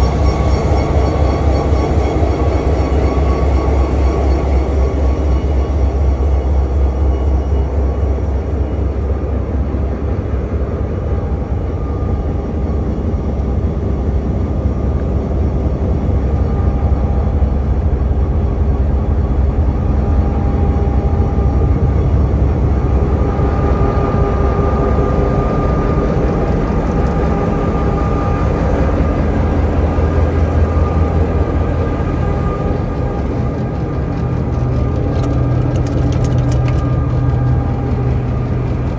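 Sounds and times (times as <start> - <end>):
locomotive engine rumbling: 0.0 - 38.9.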